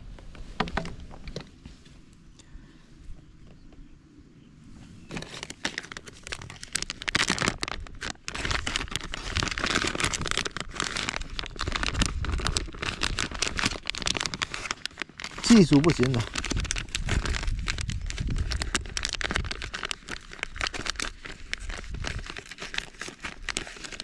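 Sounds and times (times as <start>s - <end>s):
crinkling crackling rustle: 4.6s - 24.0s.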